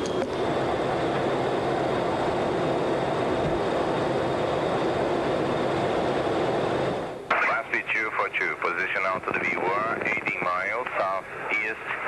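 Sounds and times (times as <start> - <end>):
airflow and engines rushing: 0.0 - 12.0.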